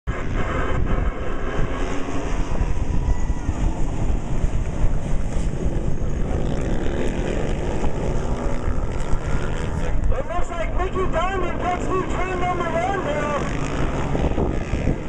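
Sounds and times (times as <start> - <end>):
racing motorcycles droning: 0.1 - 15.0.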